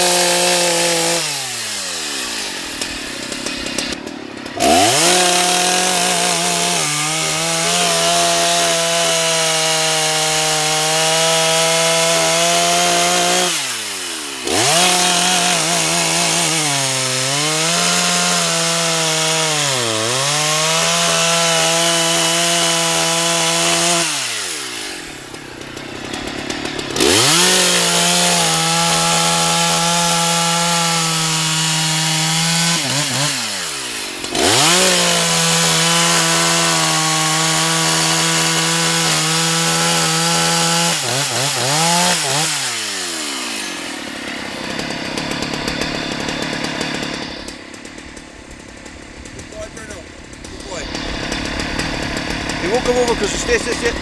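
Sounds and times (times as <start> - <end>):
chainsaw cutting logs: 0.0 - 54.0.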